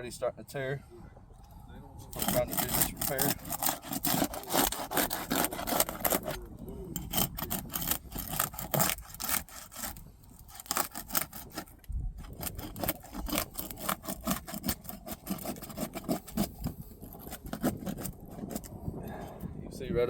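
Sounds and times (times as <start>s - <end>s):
brittle shingle tearing: 2.1s - 18.8s
shingles scraping and rasping: 2.1s - 19.4s.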